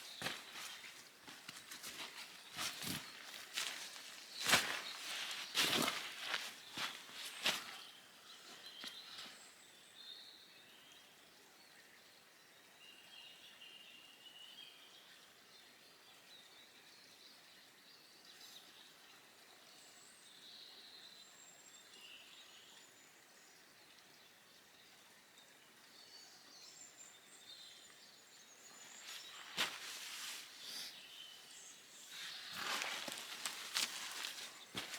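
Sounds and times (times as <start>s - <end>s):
faint birdsong: 0.0s - 34.9s.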